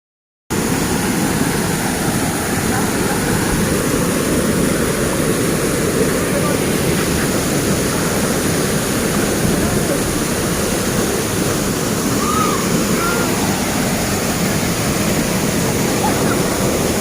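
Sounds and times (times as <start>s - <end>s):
waterfall rushing: 0.5s - 17.0s.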